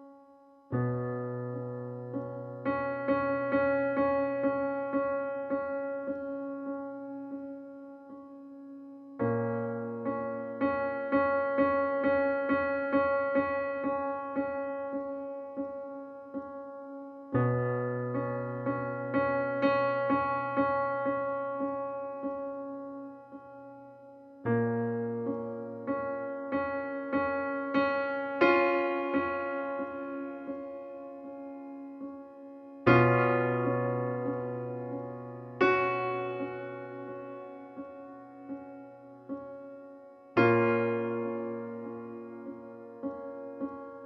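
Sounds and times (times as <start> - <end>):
gentle piano music: 0.0 - 44.0.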